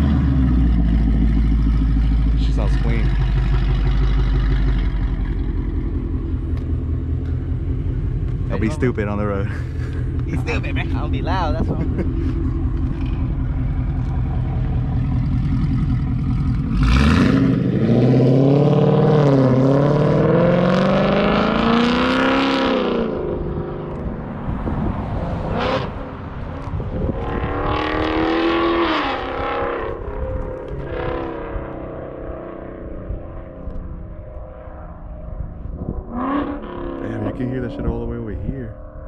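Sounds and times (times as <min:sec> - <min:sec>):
car engine accelerating hard: 0:00.0 - 0:39.0
low rumble: 0:00.0 - 0:39.0.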